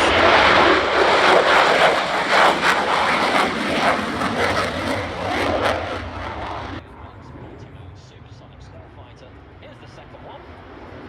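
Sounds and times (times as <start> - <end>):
jet engine roaring past: 0.0 - 11.0.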